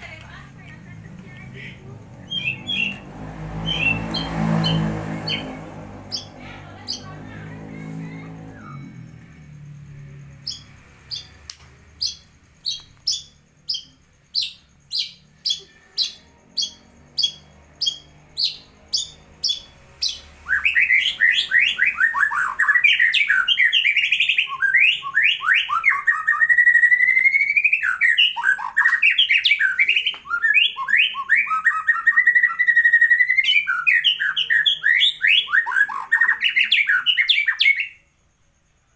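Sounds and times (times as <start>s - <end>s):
bird singing: 0.0s - 38.9s.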